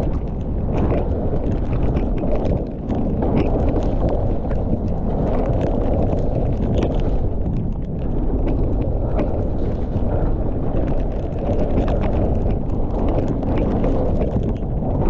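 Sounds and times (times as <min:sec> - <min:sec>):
bike rattling: 0:00.0 - 0:15.0
wind rushing over microphone: 0:00.0 - 0:15.0.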